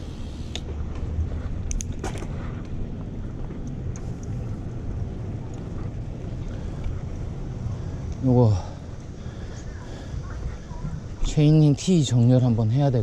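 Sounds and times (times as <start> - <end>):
wind buffeting microphone: 0.6 - 13.0.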